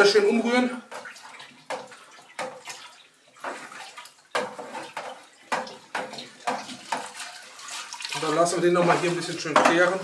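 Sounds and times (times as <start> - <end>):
liquid sloshing in a barrel: 0.0 - 10.0.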